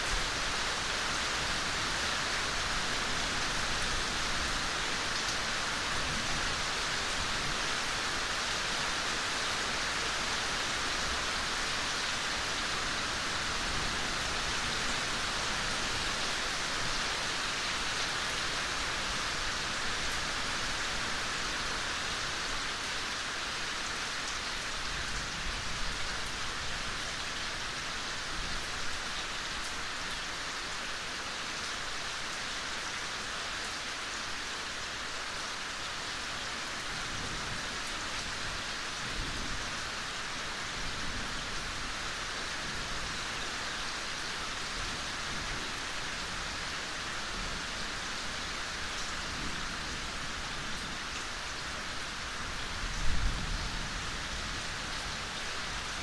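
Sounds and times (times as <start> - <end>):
soft rain on foliage: 0.0 - 56.0.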